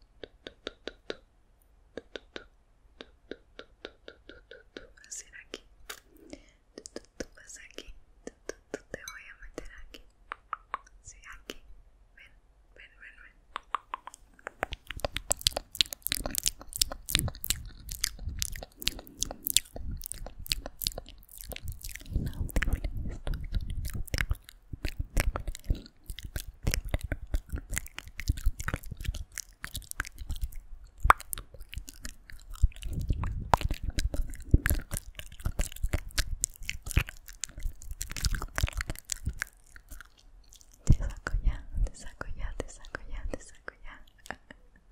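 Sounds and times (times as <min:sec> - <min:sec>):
wet mouth clicks and pops: 0:00.2 - 0:01.3, 0:02.0 - 0:11.6, 0:13.5 - 0:44.6.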